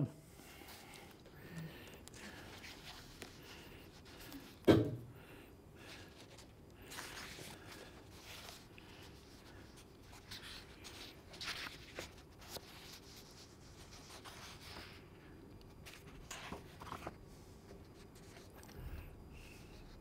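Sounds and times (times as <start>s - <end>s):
low room hum: 0.0s - 20.0s
book pages rustling: 0.6s - 4.7s, 5.8s - 20.0s.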